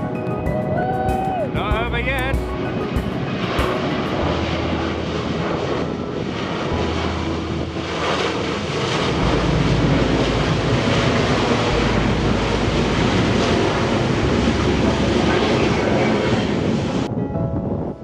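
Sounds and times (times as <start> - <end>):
jet engines roaring: 0.0 - 17.1.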